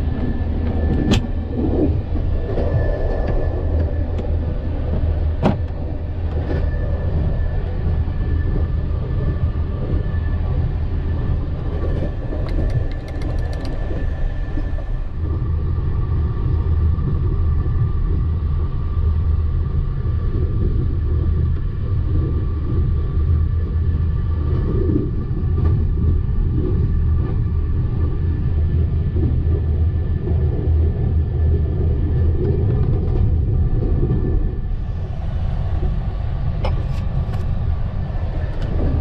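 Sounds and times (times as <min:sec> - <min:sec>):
faint whining tones: 0:00.0 - 0:39.0
train coach low rumble: 0:00.0 - 0:39.0.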